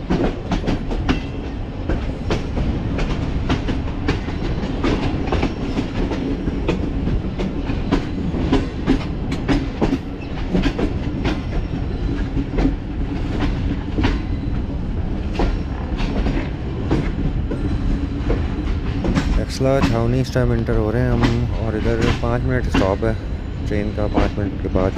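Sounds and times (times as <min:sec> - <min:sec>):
train rumbling on track: 0:00.0 - 0:24.9
wheels clicking over rail joints: 0:00.0 - 0:24.9.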